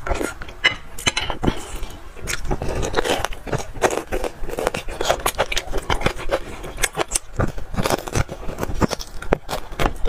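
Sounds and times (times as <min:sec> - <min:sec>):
bone gnawing clicks and crackles: 0:00.0 - 0:10.0
wet smacking and chewing: 0:01.4 - 0:10.0.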